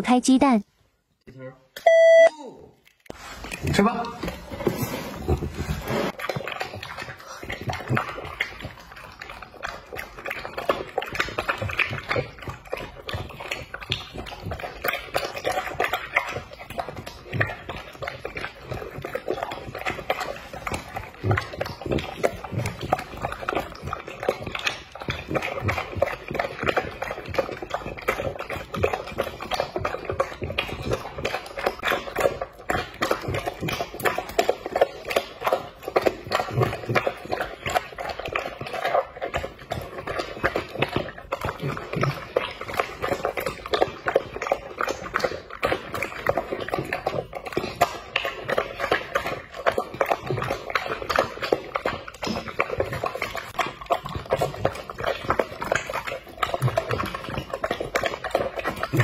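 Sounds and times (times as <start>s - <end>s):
dog chewing and lapping: 2.9s - 59.0s.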